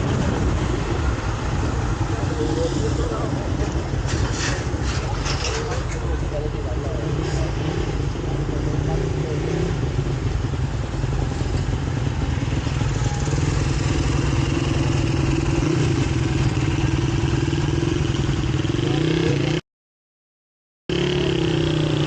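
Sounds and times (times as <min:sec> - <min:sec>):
motorcycle engine running: 0:00.0 - 0:19.6, 0:20.9 - 0:22.0
wind and road noise: 0:00.0 - 0:19.6.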